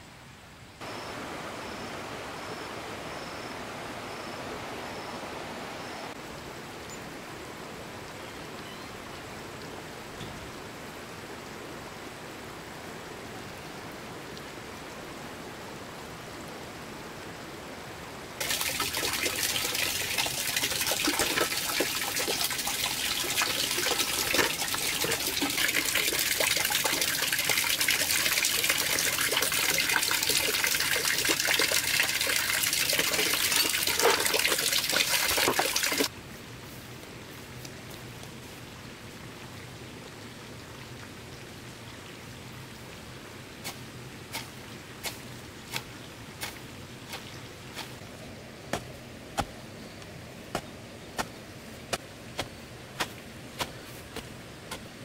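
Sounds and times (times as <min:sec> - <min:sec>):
soft hiss of water: 0:00.0 - 0:55.0.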